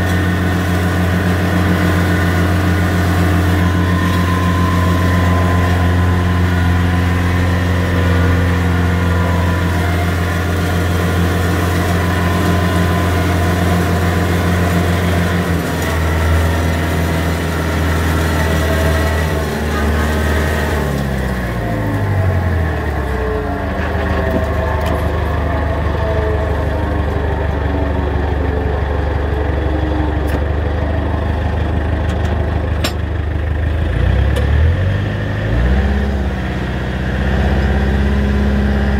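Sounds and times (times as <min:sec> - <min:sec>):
flail mower cutting grass: 0:00.0 - 0:38.9
tractor diesel engine running: 0:00.0 - 0:38.9.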